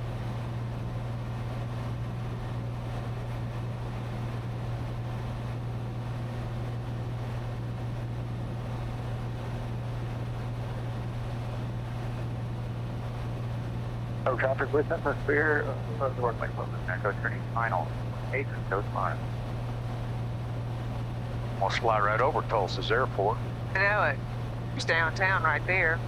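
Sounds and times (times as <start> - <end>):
airplane engine drone in cabin: 0.0 - 26.0.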